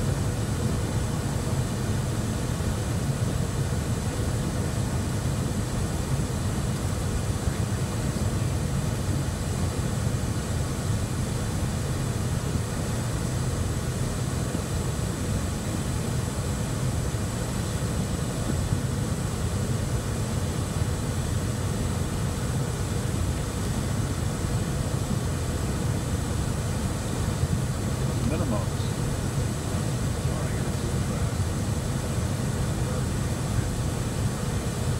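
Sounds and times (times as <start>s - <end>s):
faint high whine: 0.0s - 34.9s
jet engine and airflow rumble: 0.0s - 34.9s.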